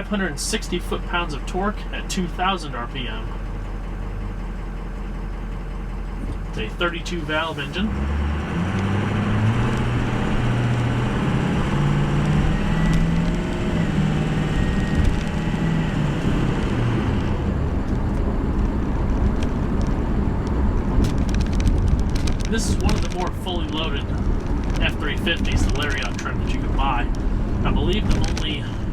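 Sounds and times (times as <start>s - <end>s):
diesel truck engine: 0.0s - 28.9s
road and tyre noise: 0.0s - 28.9s.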